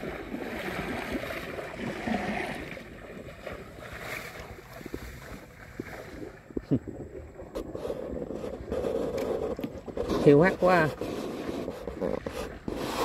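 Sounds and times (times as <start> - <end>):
water sloshing around boat: 0.0 - 13.0
wind on microphone: 0.0 - 13.0.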